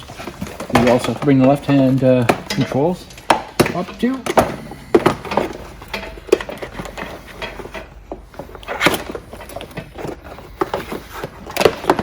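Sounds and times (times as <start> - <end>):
plastic panels knocking: 0.0 - 12.0.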